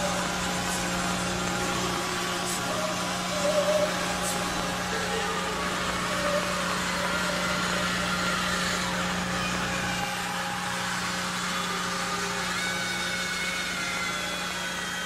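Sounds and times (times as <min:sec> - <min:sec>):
faint wavering tones: 0:00.0 - 0:12.2
low hum: 0:00.0 - 0:15.0.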